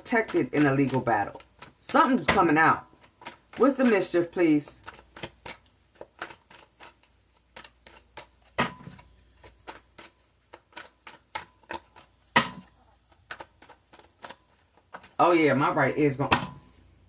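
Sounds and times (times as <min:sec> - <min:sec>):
cards being shuffled: 0:00.0 - 0:15.6.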